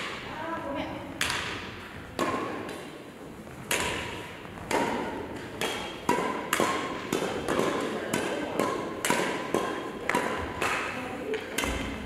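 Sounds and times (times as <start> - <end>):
rackets hitting shuttlecock: 0.0 - 0.3, 1.1 - 12.0.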